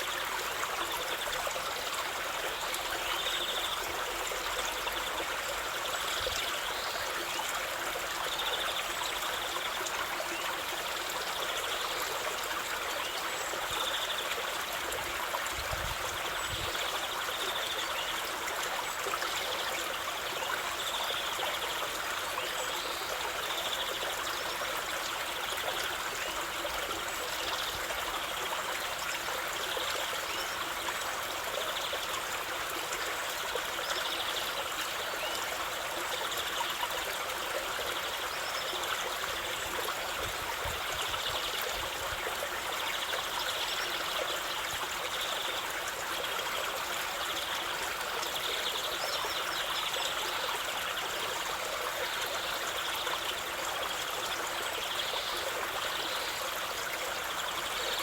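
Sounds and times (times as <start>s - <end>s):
stream water over stones: 0.0s - 58.0s.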